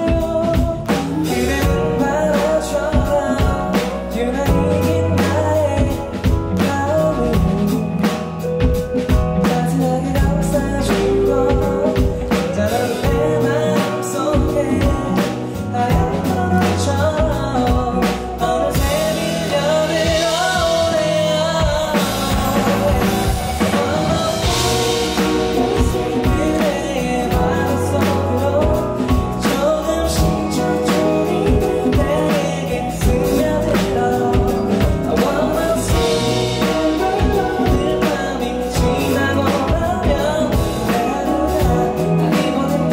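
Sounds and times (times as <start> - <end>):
band with electric guitar and drums: 0.0 - 42.9
man singing live: 0.0 - 42.9.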